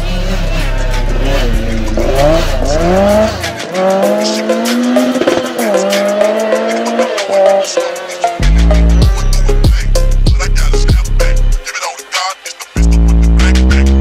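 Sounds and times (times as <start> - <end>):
rally car engine revving: 0.0 - 11.6, 12.8 - 14.0
music with fast ticking beat: 0.1 - 14.0.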